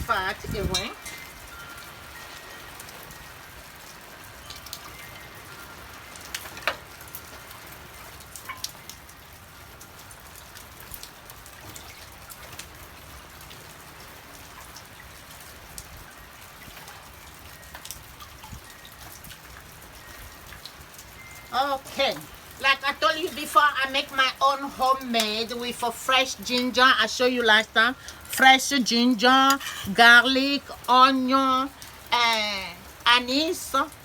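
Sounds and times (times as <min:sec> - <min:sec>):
raindrops ticking on surfaces: 0:00.0 - 0:34.0
steady rain falling: 0:00.0 - 0:34.0.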